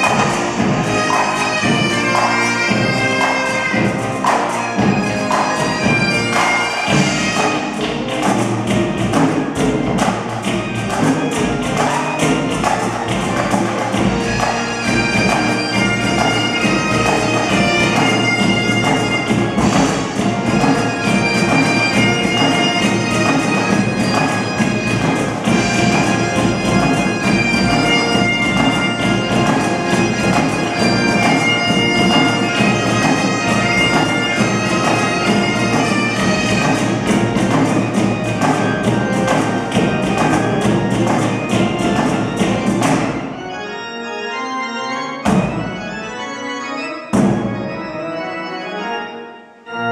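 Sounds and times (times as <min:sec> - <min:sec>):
snare and bass drums: 0:00.0 - 0:43.2
bagpipes playing: 0:00.0 - 0:49.9
pipe organ: 0:00.0 - 0:49.9.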